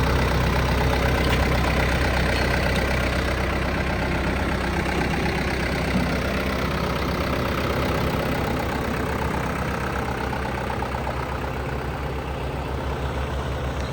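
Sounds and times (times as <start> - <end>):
backhoe diesel engine idling: 0.0 - 13.9.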